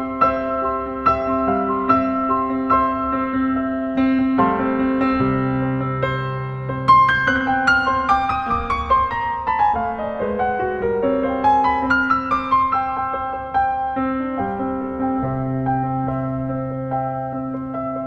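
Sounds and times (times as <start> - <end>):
slow gentle piano piece: 0.0 - 18.0.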